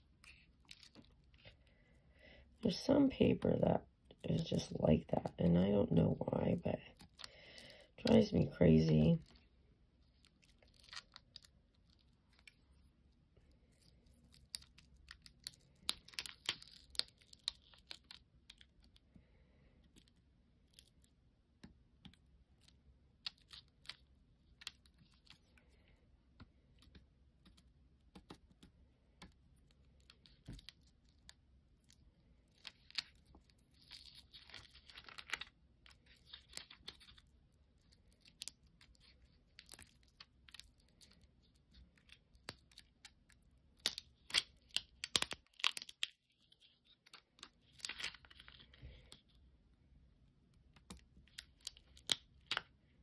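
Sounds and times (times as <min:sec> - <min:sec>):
small clicks and crinkles: 0:00.0 - 0:01.8, 0:06.0 - 0:49.5, 0:50.2 - 0:53.0.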